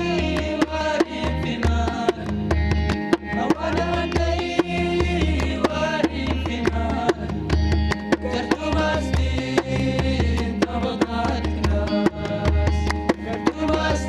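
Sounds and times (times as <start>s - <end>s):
person singing: 0.0s - 2.4s, 3.3s - 7.5s, 8.2s - 14.0s
guitar melody: 0.0s - 14.0s
hand percussion beat: 0.0s - 14.0s.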